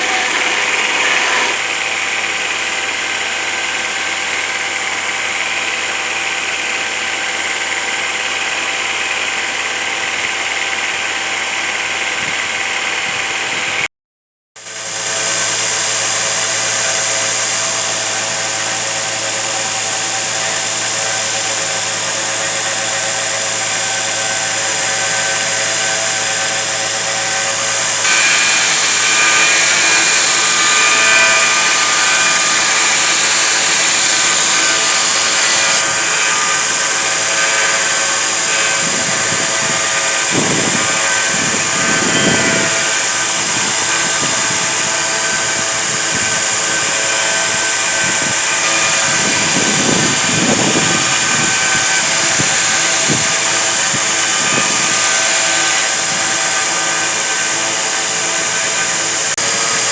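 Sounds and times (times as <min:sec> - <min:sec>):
power tool grinding steel: 0:00.0 - 0:13.9, 0:14.6 - 0:59.9.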